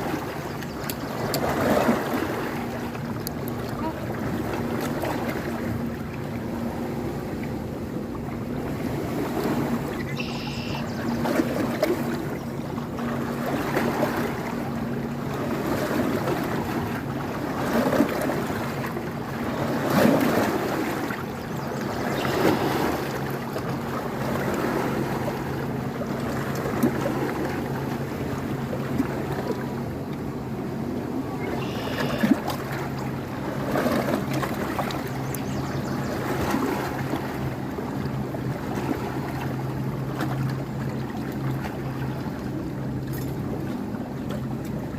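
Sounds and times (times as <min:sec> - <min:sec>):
river water flowing and splashing: 0:00.0 - 0:44.9.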